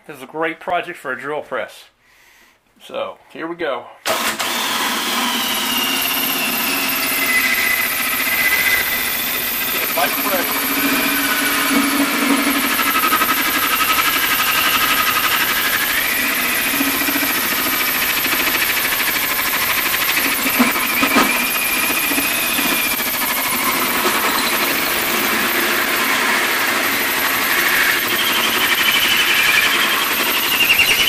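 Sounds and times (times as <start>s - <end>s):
hole saw cutting sheet metal: 4.1s - 31.0s
saw knocking in cut: 4.1s - 31.0s.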